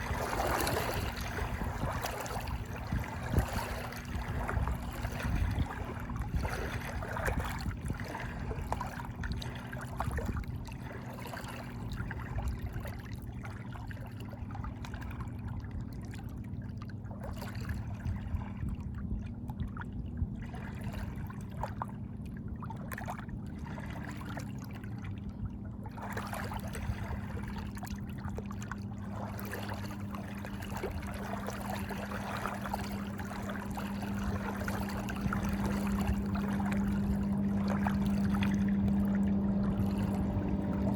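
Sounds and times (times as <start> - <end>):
steady low hum: 0.0 - 40.9
water trickling and splashing: 0.0 - 40.9.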